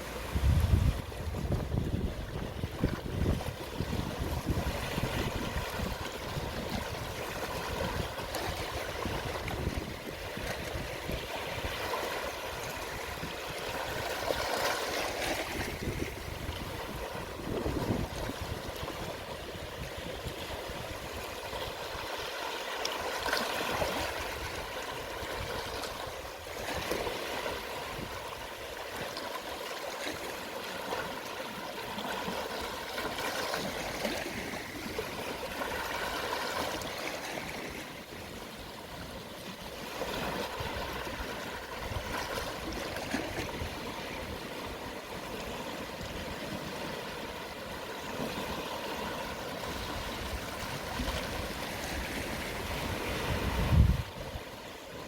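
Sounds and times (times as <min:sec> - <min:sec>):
gentle sea waves washing: 0:00.0 - 0:55.0.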